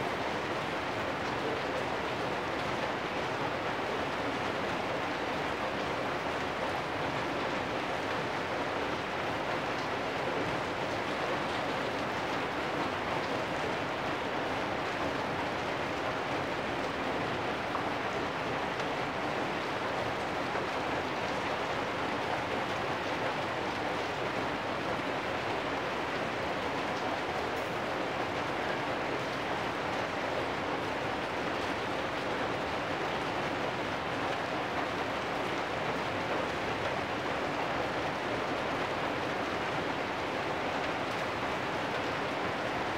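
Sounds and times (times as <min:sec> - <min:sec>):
rain on metal roofs: 0:00.0 - 0:42.9.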